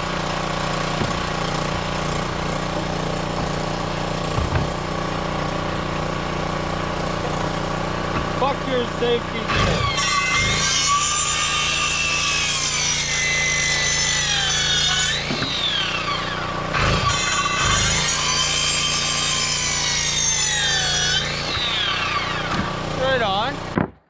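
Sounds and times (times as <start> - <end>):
generator running: 0.0 - 12.5, 13.4 - 23.8
circular saw cutting wood: 0.0 - 23.8.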